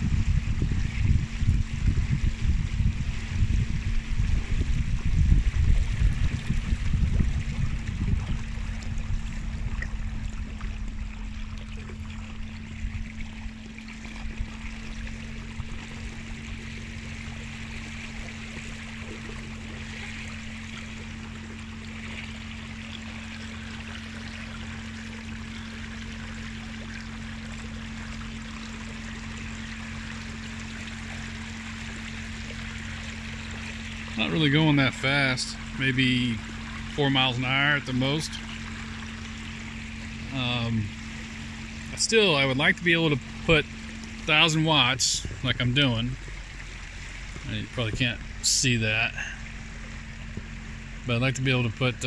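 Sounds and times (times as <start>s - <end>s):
water rushing along boat hull: 0.0s - 52.0s.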